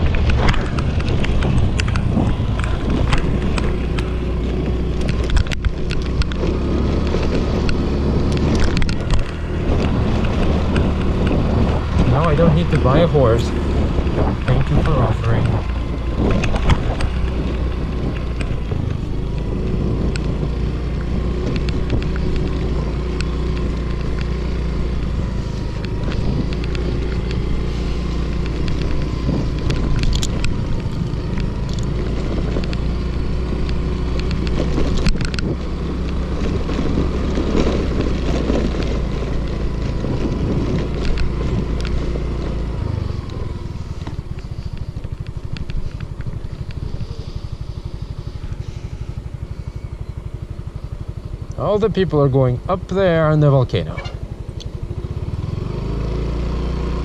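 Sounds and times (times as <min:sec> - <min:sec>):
bike knocking and rattling: 0:00.0 - 0:55.0
motor scooter engine running: 0:00.0 - 0:57.0.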